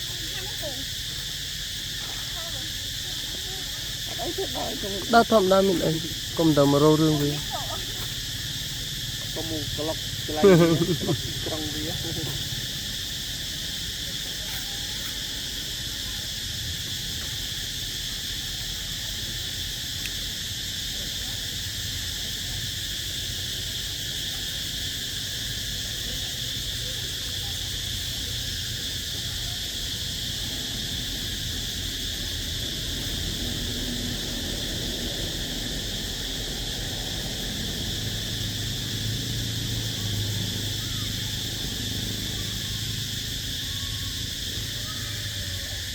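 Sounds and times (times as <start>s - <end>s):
high-pitched insect chorus: 0.0s - 45.9s.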